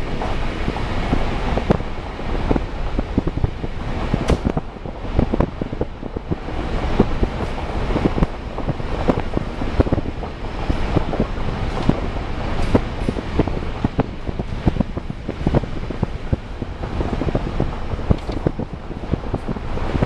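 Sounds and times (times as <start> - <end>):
vehicle rumbling: 0.0 - 20.0
wind buffeting microphone: 0.0 - 20.0.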